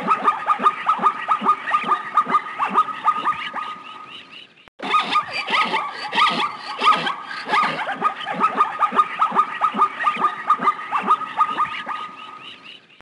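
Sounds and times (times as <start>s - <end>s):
zebras barking: 0.0s - 4.1s, 4.8s - 12.7s.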